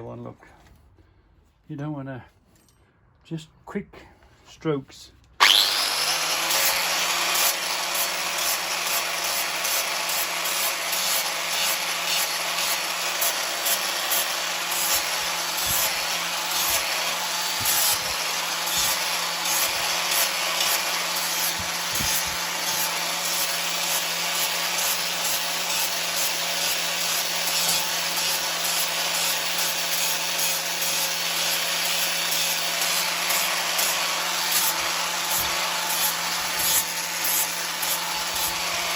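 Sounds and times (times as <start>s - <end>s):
power grinder grinding steel: 5.4s - 38.9s.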